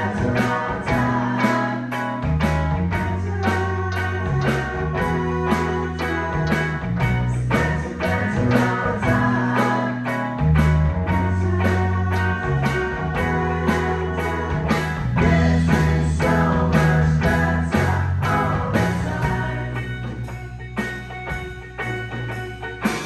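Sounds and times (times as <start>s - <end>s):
bass line of held notes: 0.0s - 23.0s
guitar: 0.0s - 23.0s
steady drum beat: 0.0s - 23.0s.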